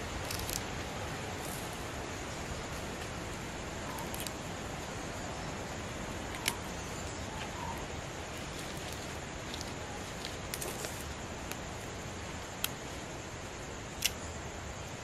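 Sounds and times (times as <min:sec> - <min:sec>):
handling leaves and sticks: 0:00.0 - 0:15.0.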